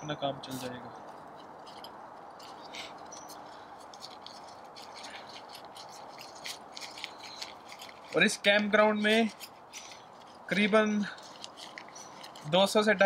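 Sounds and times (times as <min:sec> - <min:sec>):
steady low hiss: 0:00.0 - 0:13.0
gear rustling: 0:00.5 - 0:13.0.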